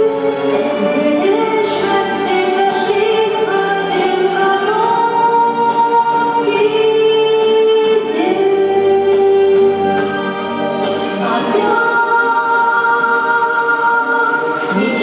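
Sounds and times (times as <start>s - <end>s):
musical accompaniment: 0.0s - 15.0s
two women singing duet: 0.0s - 15.0s.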